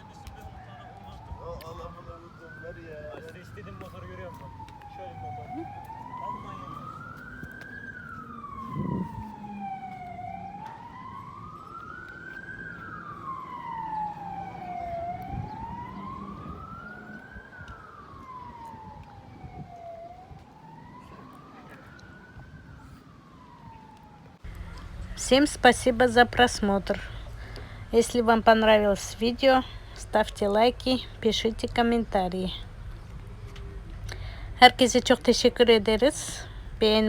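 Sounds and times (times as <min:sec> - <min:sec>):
wailing siren: 0:00.0 - 0:37.0.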